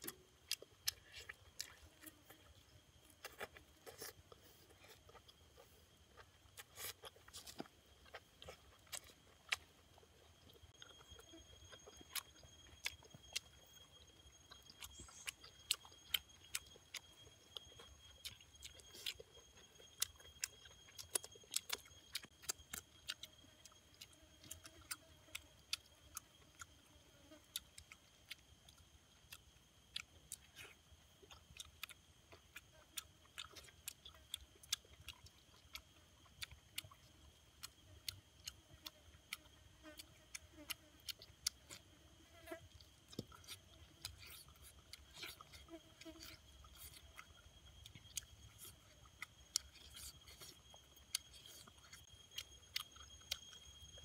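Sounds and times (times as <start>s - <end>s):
faint high-pitched whine: 0.0s - 54.0s
person chewing with mouth clicks: 0.0s - 54.0s.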